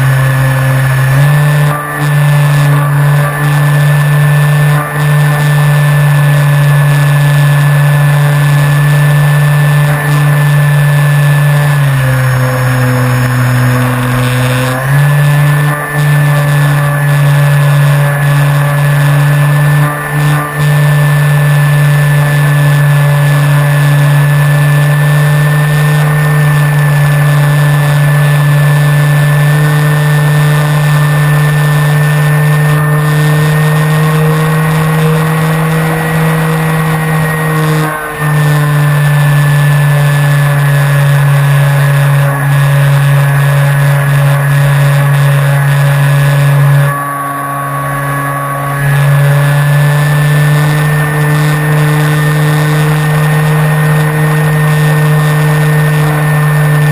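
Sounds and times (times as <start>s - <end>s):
electric motor and propeller whine: 0.0s - 56.9s.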